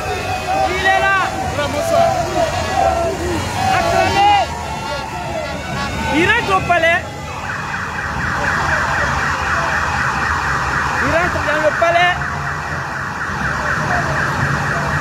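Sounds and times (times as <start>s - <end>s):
police sirens yelping: 0.0s - 15.0s.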